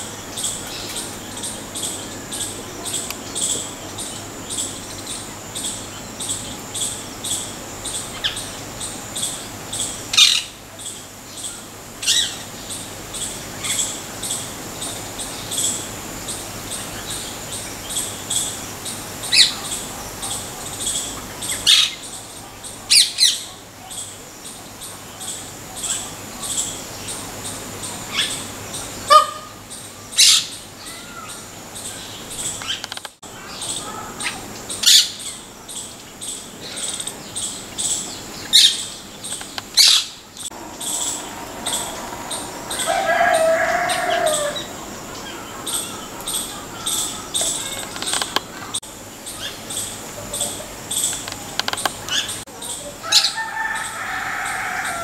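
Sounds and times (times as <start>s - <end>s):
sharp bird calls: 0.0s - 55.0s
small birds chirping: 0.0s - 55.0s.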